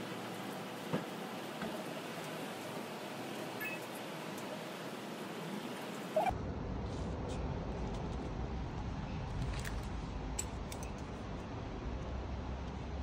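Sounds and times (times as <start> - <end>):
room noise and hiss: 0.0 - 13.0.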